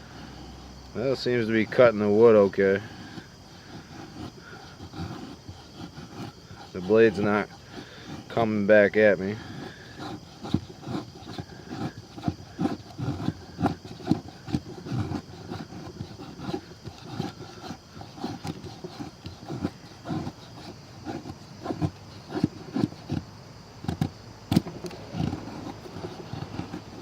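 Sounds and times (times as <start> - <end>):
knife cutting into wood: 2.4 - 8.4, 9.3 - 27.0.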